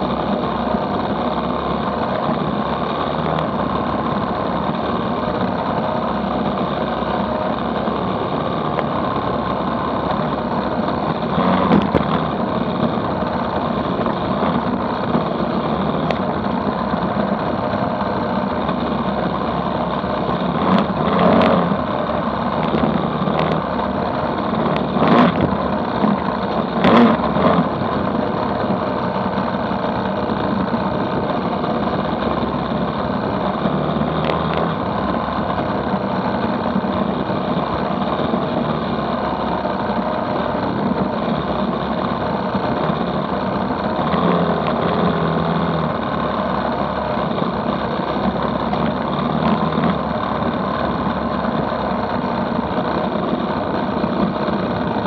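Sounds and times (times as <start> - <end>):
rough road rumble: 0.0 - 55.0
vehicle engine running: 0.0 - 55.0
wind: 0.0 - 55.0.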